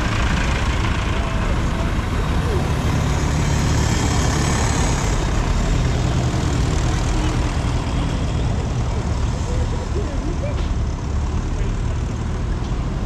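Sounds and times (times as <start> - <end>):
tractor engines driving past: 0.0 - 13.0.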